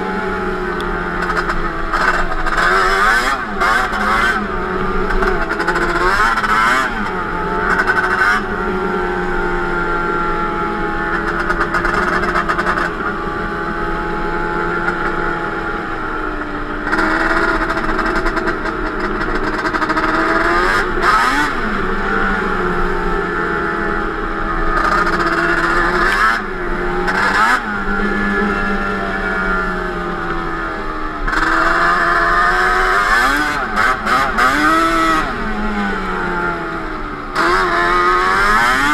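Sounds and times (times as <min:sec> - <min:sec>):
two-stroke atv engine revving: 0:00.0 - 0:38.9.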